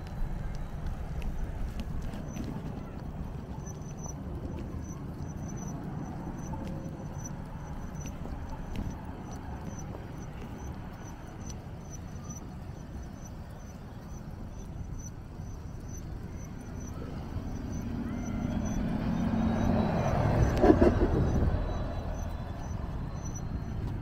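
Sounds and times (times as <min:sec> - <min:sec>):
bus engine passing by: 0:00.0 - 0:24.0
road traffic: 0:00.0 - 0:24.0.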